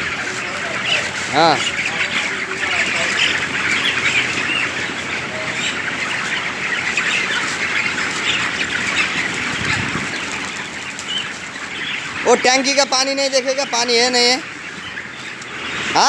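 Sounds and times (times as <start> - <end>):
chickens chirping and clucking: 0.0 - 16.0.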